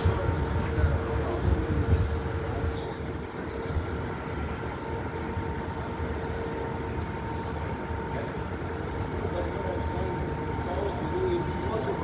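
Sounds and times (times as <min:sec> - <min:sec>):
constant hum or whine: 0:00.0 - 0:12.0
large vehicle rumble: 0:00.0 - 0:12.0.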